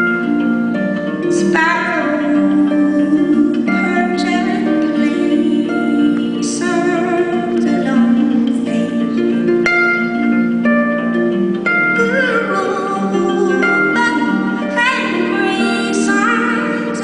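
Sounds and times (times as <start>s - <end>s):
harp played solo: 0.0s - 17.0s.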